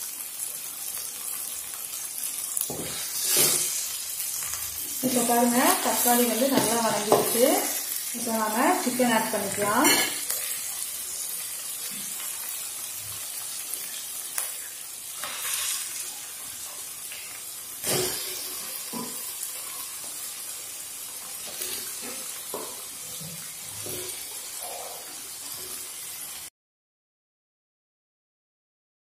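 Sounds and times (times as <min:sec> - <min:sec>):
chicken sizzling in hot oil: 0:00.0 - 0:26.5.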